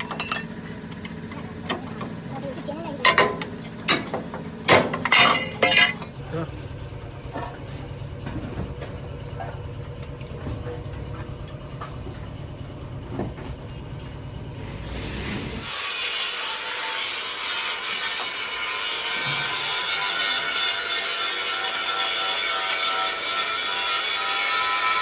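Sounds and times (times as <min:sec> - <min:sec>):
workshop machine rumble: 0:00.0 - 0:25.0.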